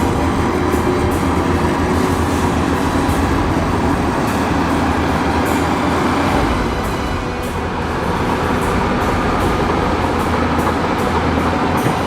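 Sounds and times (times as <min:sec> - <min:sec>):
bulldozer engine drone: 0:00.0 - 0:12.0
steel tracks clanking: 0:00.0 - 0:12.0.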